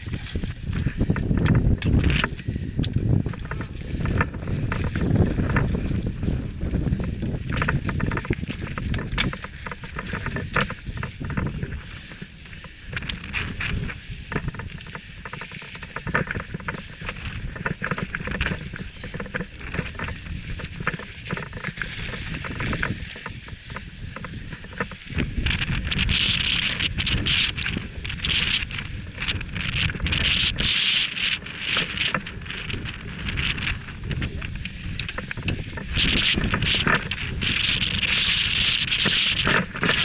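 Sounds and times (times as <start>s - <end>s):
bike rattling: 0.0s - 40.0s
wind rumble on microphone: 0.0s - 40.0s.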